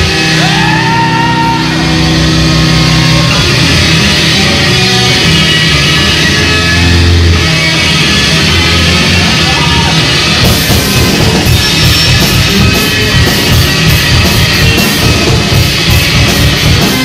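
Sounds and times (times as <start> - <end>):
drums pounding with cymbals: 0.0 - 17.0
live rock band playing: 0.0 - 17.0.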